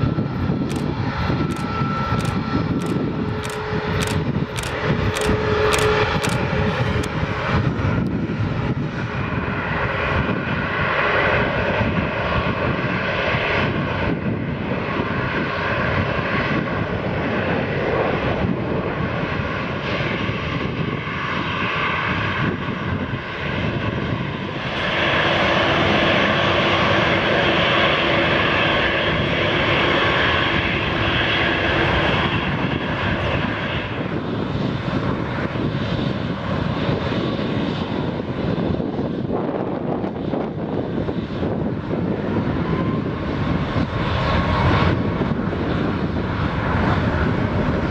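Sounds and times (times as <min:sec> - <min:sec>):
jet engine noise: 0:00.0 - 0:47.9.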